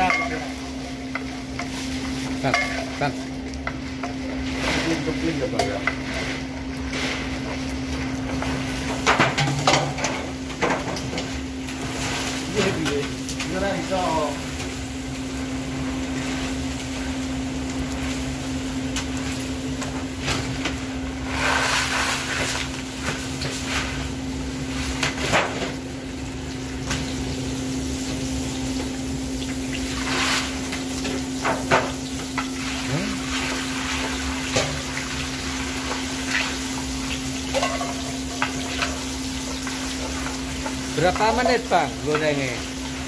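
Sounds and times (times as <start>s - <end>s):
crackers frying in hot oil: 0.0s - 43.0s.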